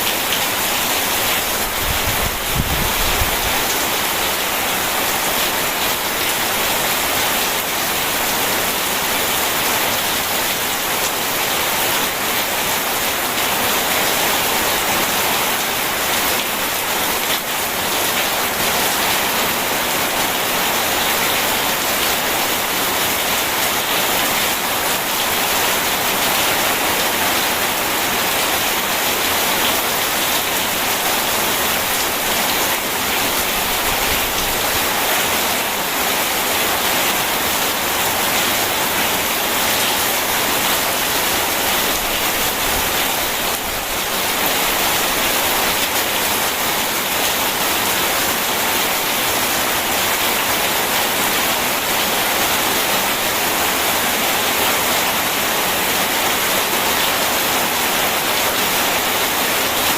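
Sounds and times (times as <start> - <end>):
dense rain: 0.0 - 59.9.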